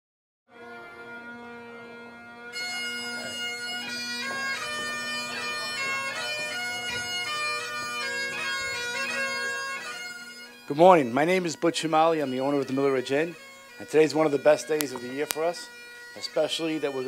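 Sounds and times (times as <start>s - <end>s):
bagpipe chanter melody: 0.5s - 17.0s
bagpipe drones: 0.5s - 17.0s.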